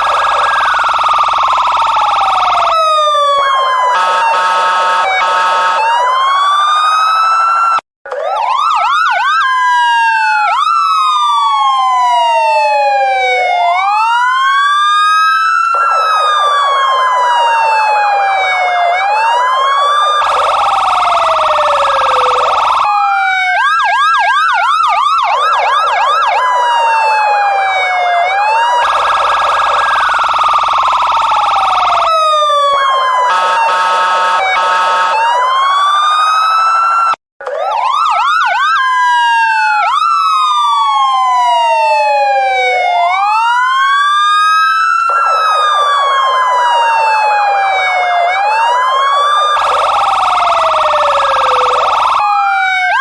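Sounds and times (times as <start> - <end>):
police siren wailing and yelping: 0.0 - 53.0.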